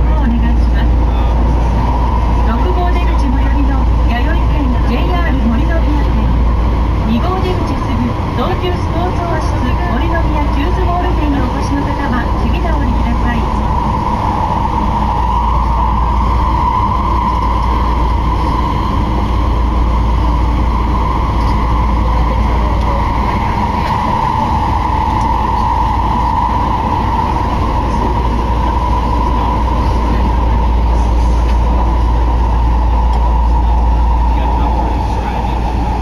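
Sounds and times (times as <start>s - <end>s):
subway car running noise: 0.0s - 36.0s.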